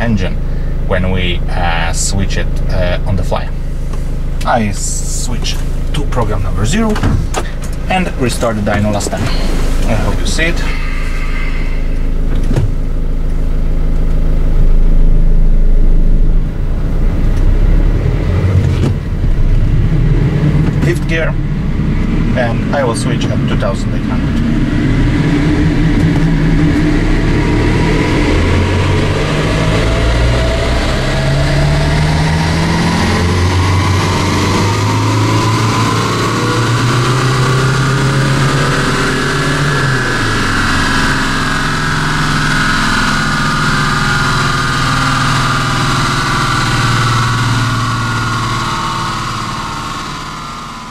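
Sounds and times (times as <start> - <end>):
car engine revving under load: 0.0 - 50.9.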